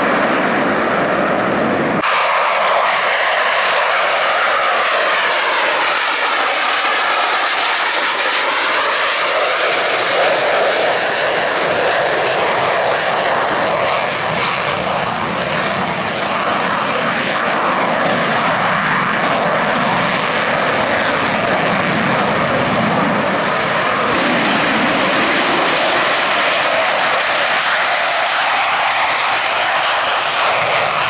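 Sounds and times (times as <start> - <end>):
jet noise in flight: 0.0 - 31.0.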